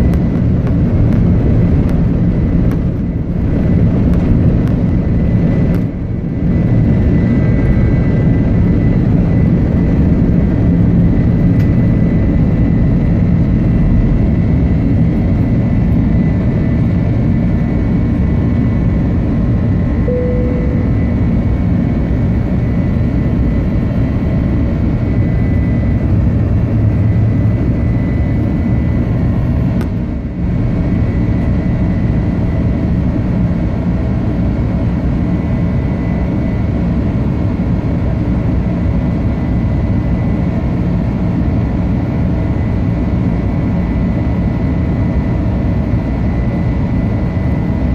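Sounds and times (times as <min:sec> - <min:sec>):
faint high engine whine: 0:00.0 - 0:47.9
jet engines roaring: 0:00.0 - 0:47.9.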